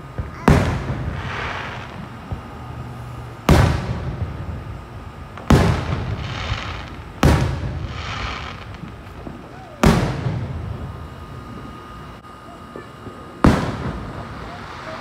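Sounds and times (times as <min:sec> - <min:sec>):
fireworks booming: 0:00.0 - 0:12.2, 0:12.8 - 0:15.0
rolling rumble: 0:00.0 - 0:12.2.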